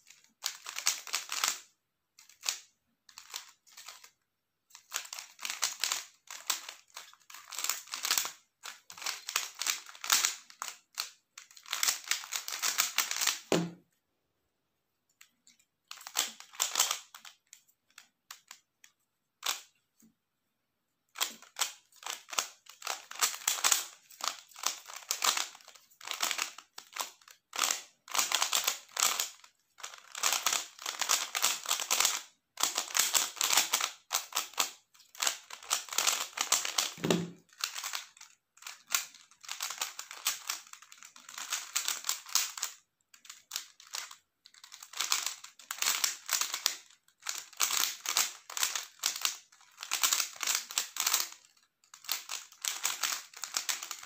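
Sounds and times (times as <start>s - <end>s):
plastic puzzle cube clicking: 0.1s - 4.1s, 4.8s - 13.5s, 15.9s - 19.8s, 21.2s - 54.0s.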